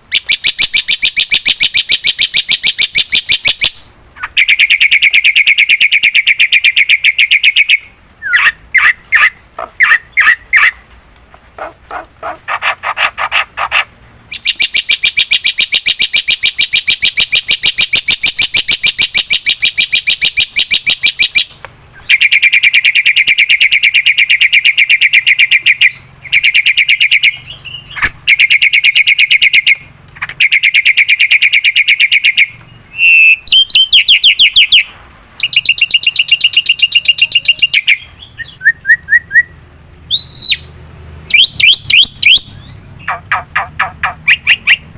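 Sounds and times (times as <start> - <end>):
myna calling in rattling trills: 0.1 - 38.6, 40.1 - 44.9.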